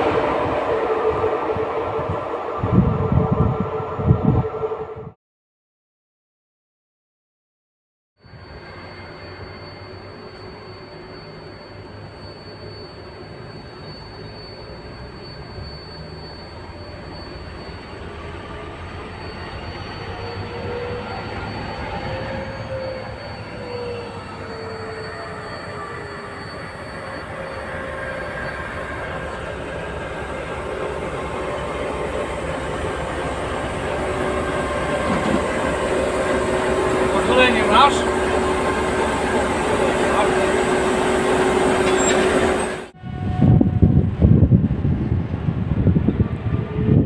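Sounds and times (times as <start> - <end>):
diesel locomotive engine drone: 0.0 - 5.2, 8.2 - 47.0
wavering whine: 0.0 - 5.2, 8.2 - 47.0.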